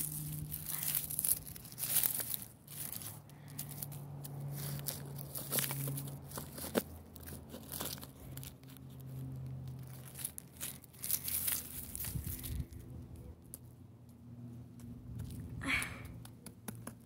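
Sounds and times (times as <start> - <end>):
straw and twigs crackling: 0.0 - 13.7.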